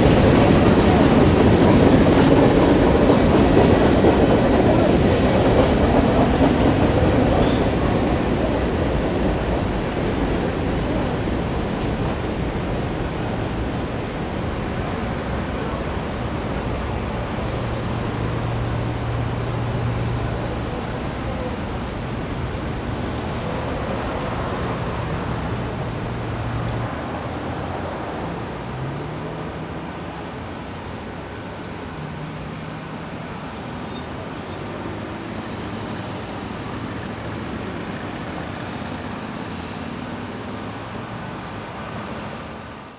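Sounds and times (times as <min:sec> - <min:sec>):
road traffic: 0:00.0 - 0:42.9.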